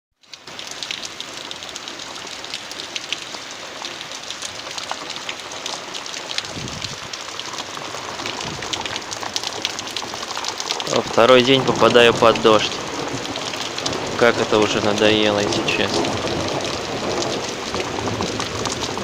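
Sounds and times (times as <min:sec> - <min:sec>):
raindrops ticking sharply: 0:00.2 - 0:19.0
steady rain hiss: 0:00.3 - 0:19.0.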